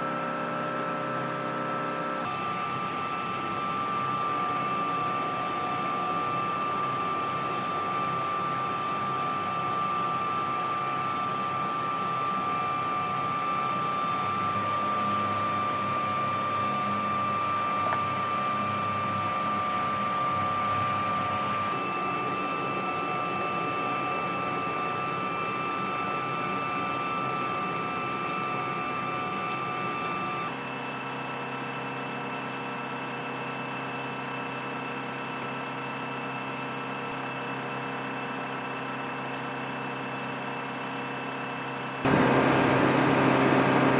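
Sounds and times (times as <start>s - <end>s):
helicopter turbine whine: 0.0s - 43.9s.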